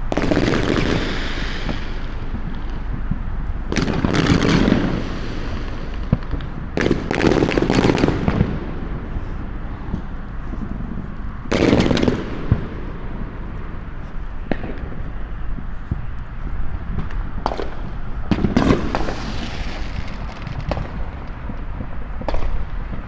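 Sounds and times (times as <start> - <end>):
crackling rapid pops: 0.0 - 23.0
fireworks bursting: 0.0 - 23.0
steady low rumble: 0.0 - 23.0.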